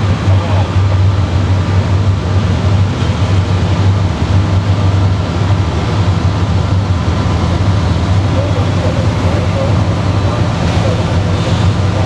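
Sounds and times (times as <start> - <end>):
constant rushing noise: 0.0 - 12.0
diesel locomotive drone: 0.0 - 12.0.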